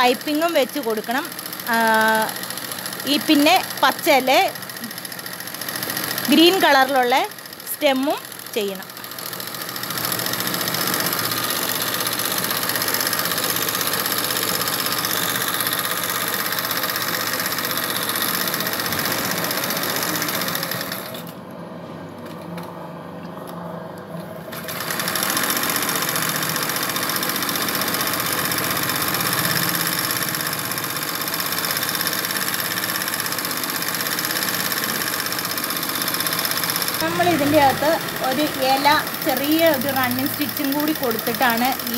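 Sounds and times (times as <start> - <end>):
electric sewing machine running: 0.0 - 21.4, 24.5 - 41.9.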